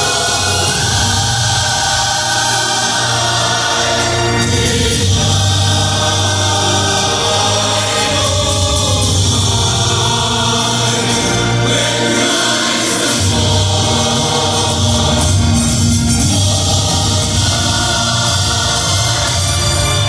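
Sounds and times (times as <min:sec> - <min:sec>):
instrumental accompaniment: 0:00.0 - 0:20.0
large choir singing: 0:00.0 - 0:20.0.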